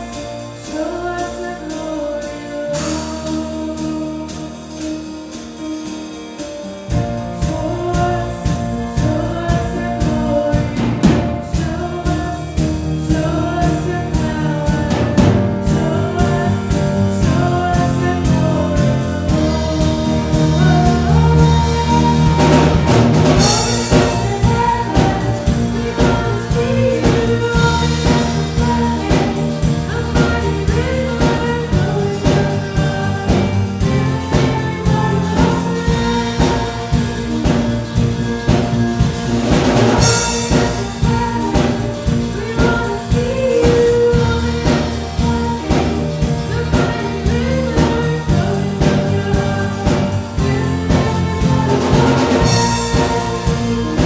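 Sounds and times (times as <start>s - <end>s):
person singing: 0.0s - 5.2s, 7.2s - 38.7s, 39.9s - 54.0s
worship band playing: 0.0s - 54.0s.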